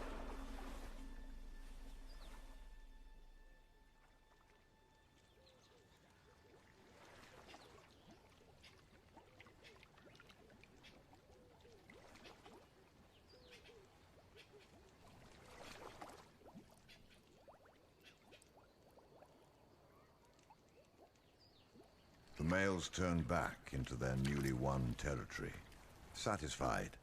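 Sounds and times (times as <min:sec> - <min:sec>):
soft water splashes: 0:00.0 - 0:27.0.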